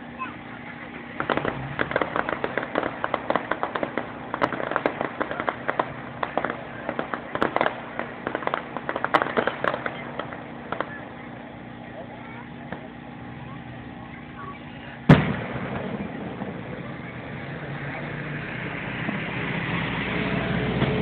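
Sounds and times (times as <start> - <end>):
crackling fireworks popping: 0.0 - 21.0.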